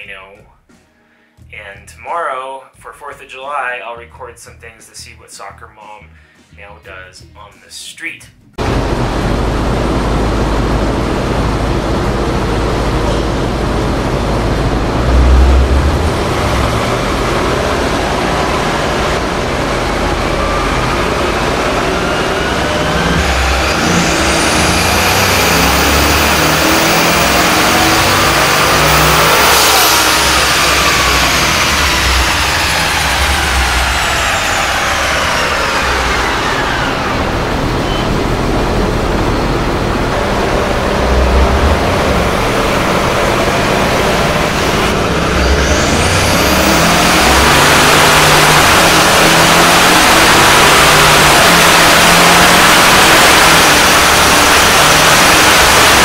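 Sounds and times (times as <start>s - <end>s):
car engine full-throttle pull: 8.6s - 56.0s
high turbo whine: 8.6s - 56.0s.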